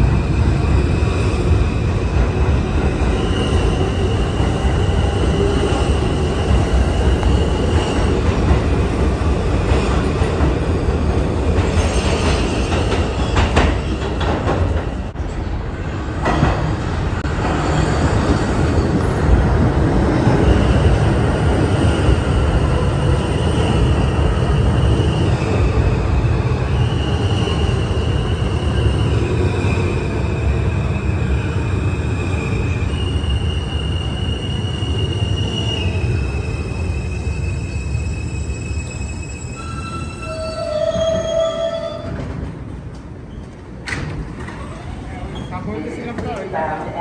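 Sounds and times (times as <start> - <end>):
subway train wheels rumbling: 0.0 - 47.0.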